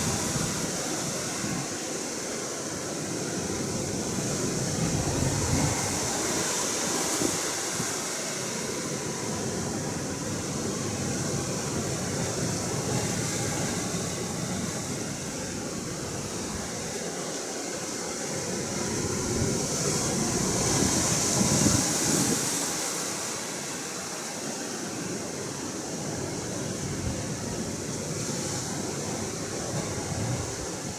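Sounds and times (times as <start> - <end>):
ocean waves breaking: 0.0 - 30.9.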